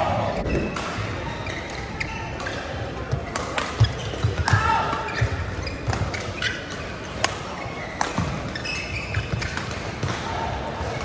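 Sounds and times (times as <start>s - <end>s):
shoes squeaking on court floor: 0.4s - 10.1s.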